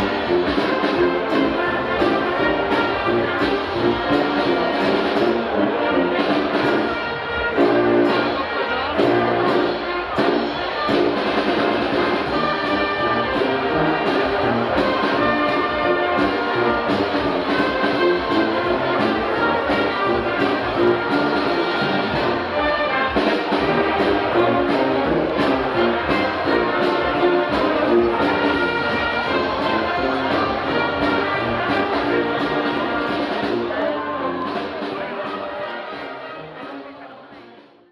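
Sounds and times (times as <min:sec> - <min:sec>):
wind band playing a tune: 0:00.0 - 0:37.9.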